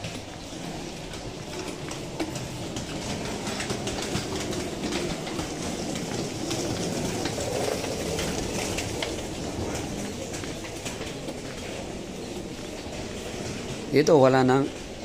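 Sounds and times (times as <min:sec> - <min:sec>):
footsteps: 0:00.0 - 0:15.0
suitcase wheels rumbling on paving: 0:00.0 - 0:15.0.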